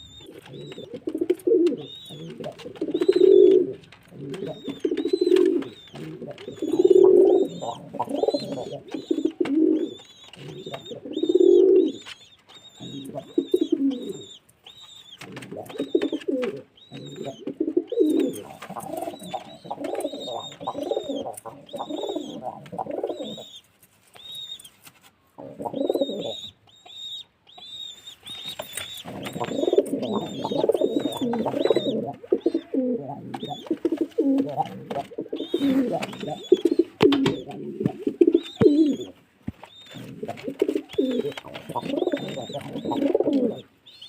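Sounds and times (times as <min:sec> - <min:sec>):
pigeons cooing: 0:00.0 - 0:23.6, 0:25.4 - 0:27.6, 0:28.2 - 0:44.0
small bird chirping: 0:00.0 - 0:24.8, 0:25.4 - 0:44.0.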